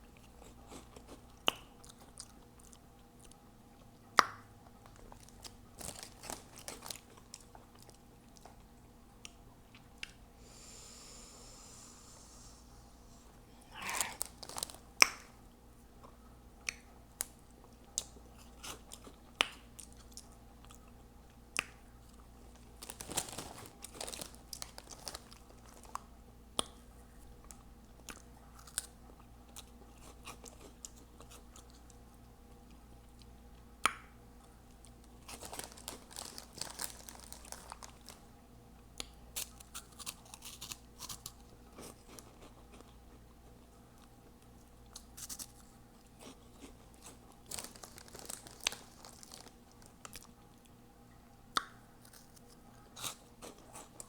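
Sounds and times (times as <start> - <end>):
crunching and wet chewing: 0.0 - 10.3, 13.6 - 54.0.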